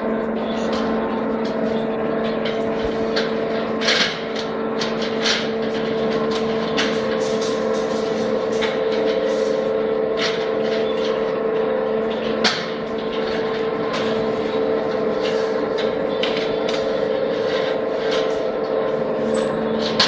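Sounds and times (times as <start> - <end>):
electric motor hum: 0.0 - 20.0.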